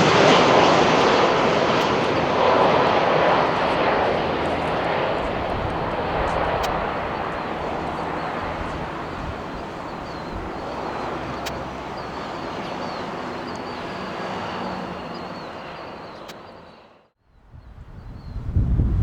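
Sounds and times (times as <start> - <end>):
jet engines rushing: 0.0 - 17.1.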